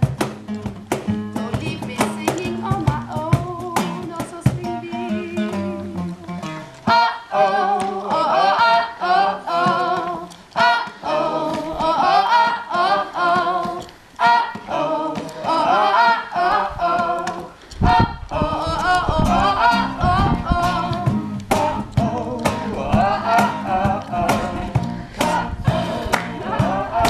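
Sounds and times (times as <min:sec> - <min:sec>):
low instruments: 0:00.0 - 0:27.0
woman singing: 0:01.4 - 0:27.0.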